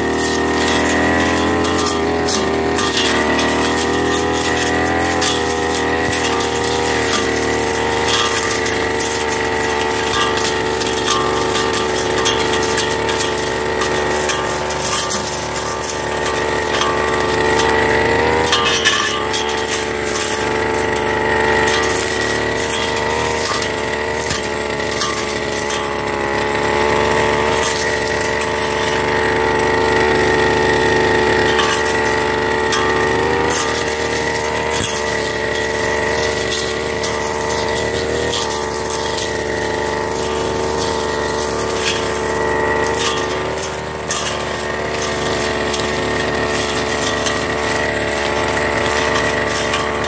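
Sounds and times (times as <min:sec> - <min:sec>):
grass stems crackling: 0:00.0 - 0:30.1, 0:31.4 - 0:50.0
brush cutter engine running: 0:00.0 - 0:50.0.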